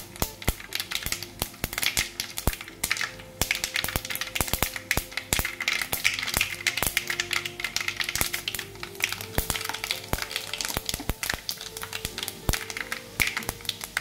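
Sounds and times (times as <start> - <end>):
spices popping in hot oil: 0.0 - 14.0.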